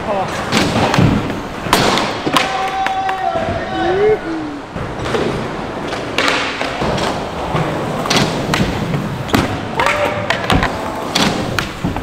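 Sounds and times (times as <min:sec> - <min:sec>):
skateboard wheels rolling: 0:00.0 - 0:12.0.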